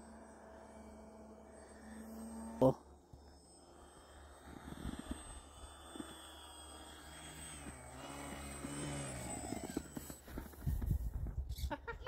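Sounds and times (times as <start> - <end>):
electric motor and propeller whining: 0.0 - 12.0.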